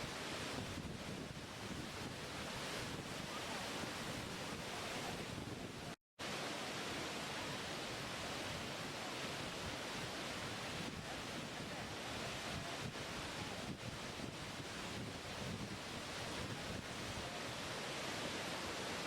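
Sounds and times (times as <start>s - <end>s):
waterfall rushing: 1.4s - 19.0s.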